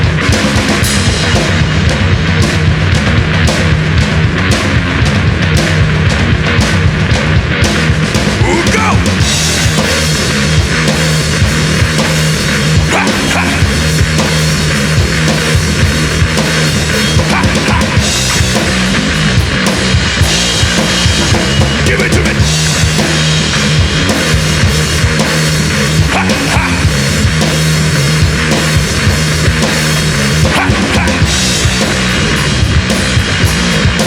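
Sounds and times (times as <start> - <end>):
drum kit beat: 0.0 - 34.0
hard rock band playing: 0.0 - 34.0.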